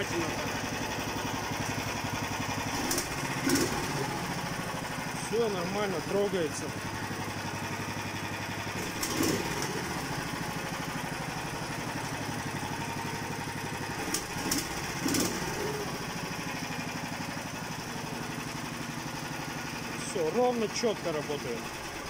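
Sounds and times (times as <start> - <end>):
sled engine running steadily: 0.0 - 22.0.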